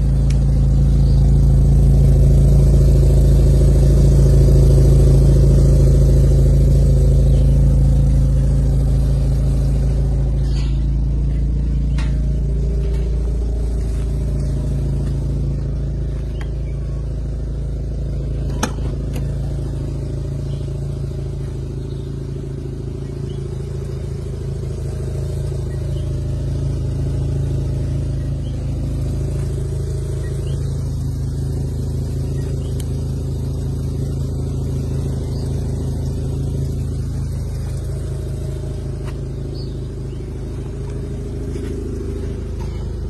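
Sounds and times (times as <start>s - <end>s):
rotary engine idling: 0.0s - 43.0s.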